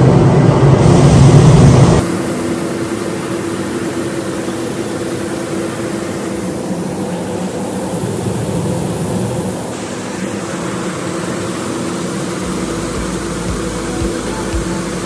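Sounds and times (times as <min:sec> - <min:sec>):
grain auger humming: 0:00.0 - 0:15.0
grain dryer loud low drone: 0:00.0 - 0:15.0.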